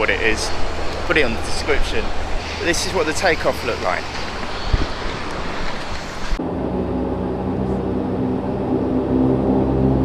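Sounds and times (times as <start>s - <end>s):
outdoor noise: 0.0s - 10.0s
turboprop plane taxiing drone: 0.0s - 10.0s.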